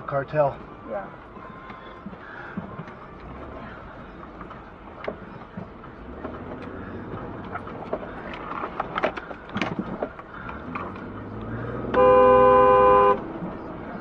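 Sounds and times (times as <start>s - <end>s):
road noise: 0.0s - 14.0s
vehicle engine: 0.0s - 14.0s.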